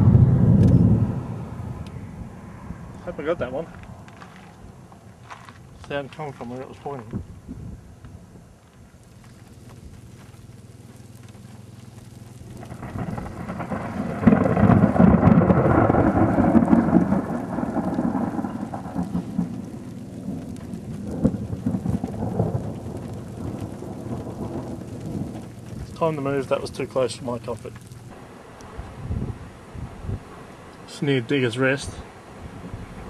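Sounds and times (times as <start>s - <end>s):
thunder rumbling: 0.0s - 4.9s, 6.6s - 33.0s.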